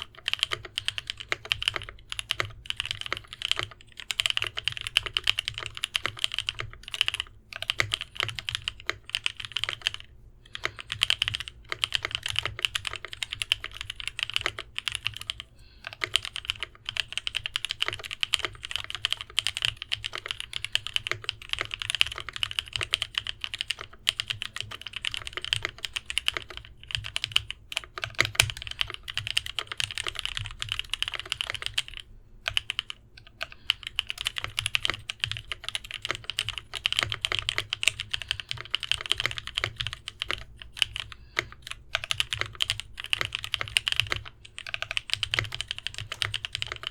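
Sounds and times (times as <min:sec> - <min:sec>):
mechanical keyboard typing: 0:00.0 - 0:46.9.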